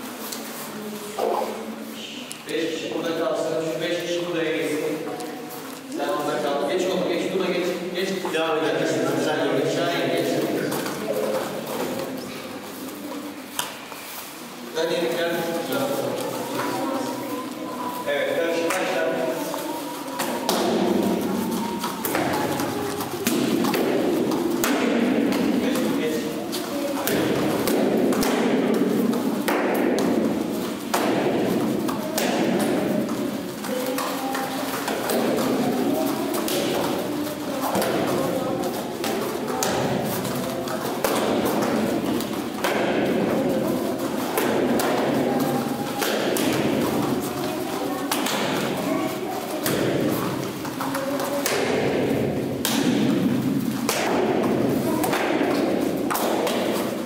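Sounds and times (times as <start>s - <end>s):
indistinct voices: 0.0s - 57.0s.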